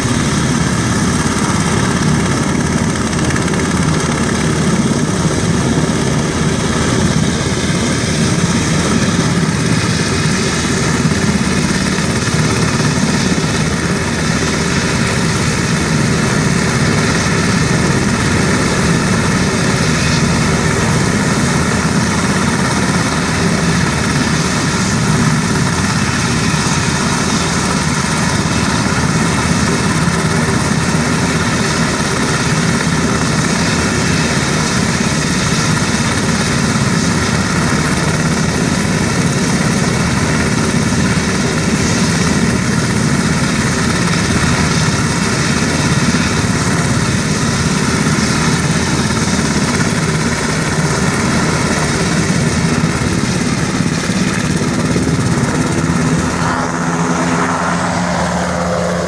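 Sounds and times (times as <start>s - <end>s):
helicopter running: 0.0s - 59.0s.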